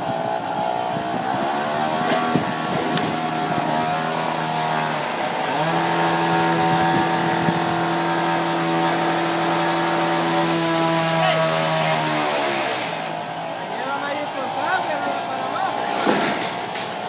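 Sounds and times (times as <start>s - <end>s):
motor running steadily: 0.0s - 17.0s.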